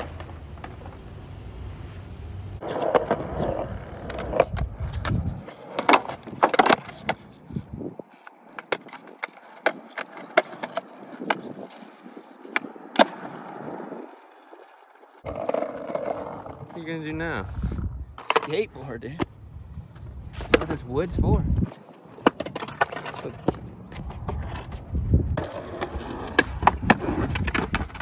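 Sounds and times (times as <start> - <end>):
skateboard clacking on ground: 0.0 - 1.2, 2.6 - 17.0, 18.1 - 19.3, 20.3 - 20.9, 21.7 - 28.0
skateboard wheels rolling on concrete: 0.0 - 28.0.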